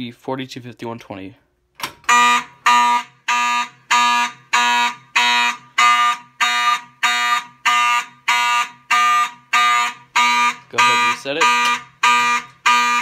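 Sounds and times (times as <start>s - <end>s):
fire alarm horn pulsing: 2.0s - 13.0s.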